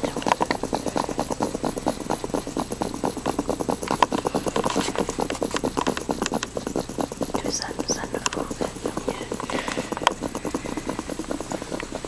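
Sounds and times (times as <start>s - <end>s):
pet snoring: 0.0s - 12.0s.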